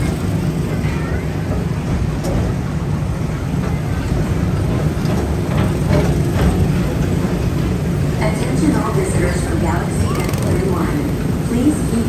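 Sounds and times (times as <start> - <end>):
ride car rumbling on track: 0.0 - 12.0.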